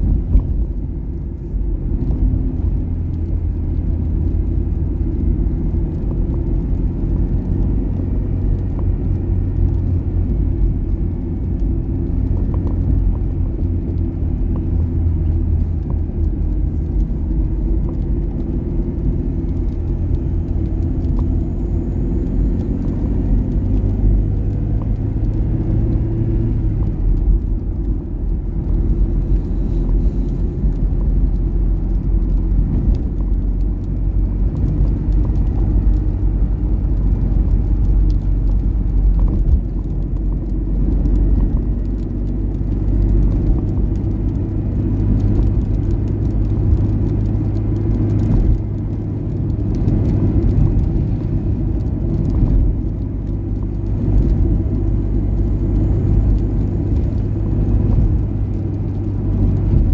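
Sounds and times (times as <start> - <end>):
car engine rumble from inside: 0.0 - 59.9
tyres on wet road: 0.0 - 59.9.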